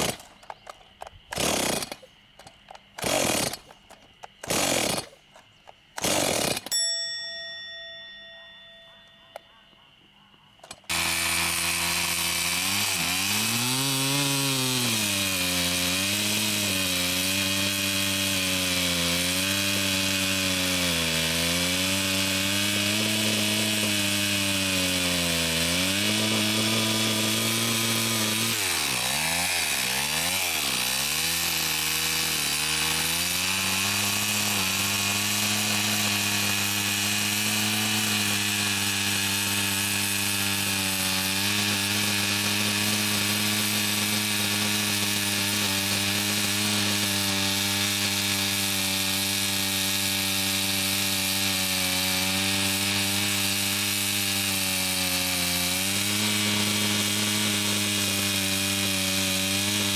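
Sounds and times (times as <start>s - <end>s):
chainsaw cutting through log: 0.0s - 0.3s, 1.2s - 2.1s, 2.7s - 5.2s, 6.0s - 6.8s, 10.7s - 59.9s.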